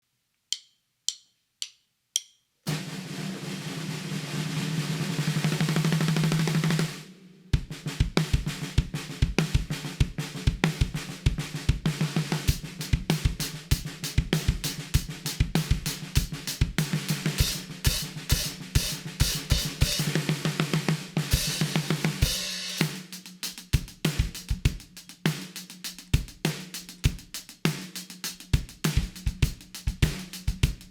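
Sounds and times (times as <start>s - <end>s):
cymbals: 2.7s - 11.2s, 11.9s - 29.2s
drum kit groove: 2.7s - 30.9s
snare drum roll: 2.7s - 30.9s.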